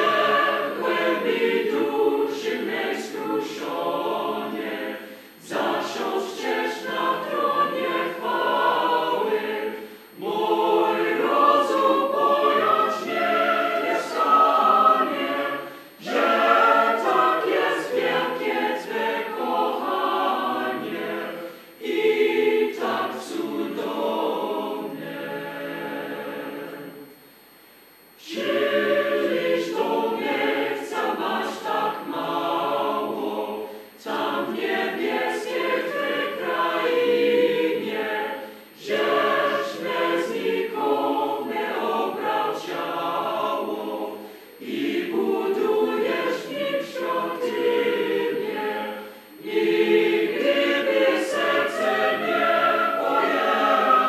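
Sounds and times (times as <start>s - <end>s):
choir singing a hymn: 0.0s - 27.2s, 28.2s - 54.0s.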